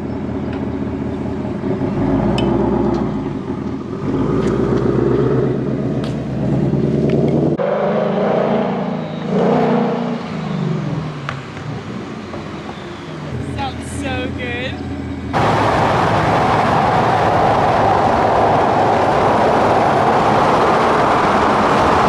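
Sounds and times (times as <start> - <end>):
car driving by: 1.9 - 22.0.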